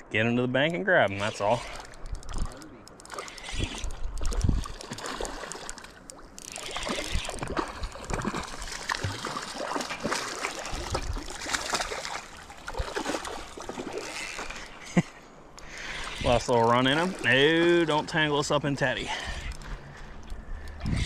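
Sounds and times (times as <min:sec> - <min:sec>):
water splashing and trickling: 0:00.7 - 0:21.0.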